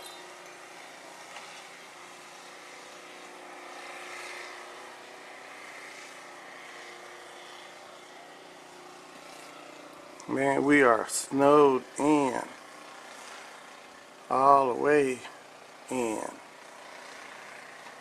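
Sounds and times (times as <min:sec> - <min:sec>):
distant engine drone: 0:00.0 - 0:18.0.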